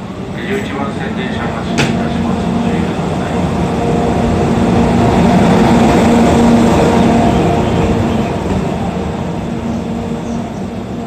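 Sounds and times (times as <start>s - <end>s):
electric locomotive passing: 0.0s - 11.0s.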